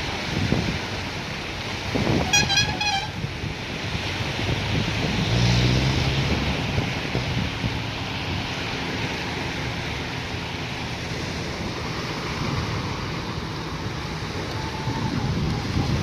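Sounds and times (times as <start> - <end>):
waves washing over pebbly shore: 0.0 - 2.3, 3.1 - 16.0
wind rumbling on microphone: 0.0 - 16.0.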